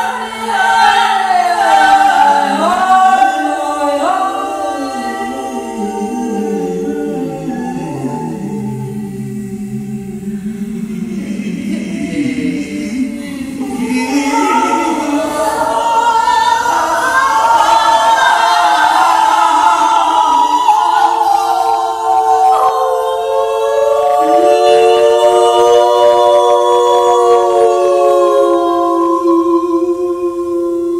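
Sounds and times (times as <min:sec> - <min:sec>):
women singing a cappella: 0:00.0 - 0:30.9.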